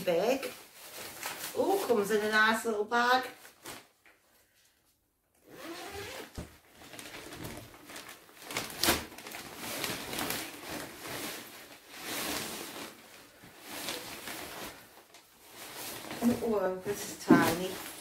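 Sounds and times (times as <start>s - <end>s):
nylon fabric rustling: 0.0s - 4.0s, 5.5s - 18.0s.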